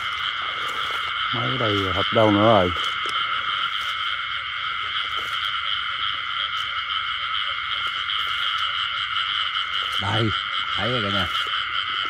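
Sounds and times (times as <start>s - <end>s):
chorus of frogs calling: 0.0s - 12.0s.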